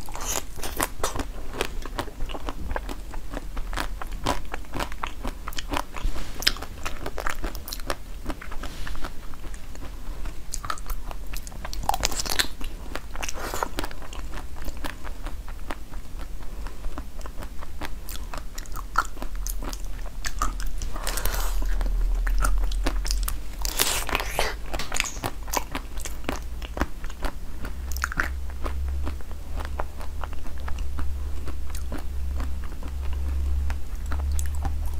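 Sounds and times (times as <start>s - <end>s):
crunchy chewing close up: 0.0s - 34.9s
steady low hum: 0.0s - 34.9s.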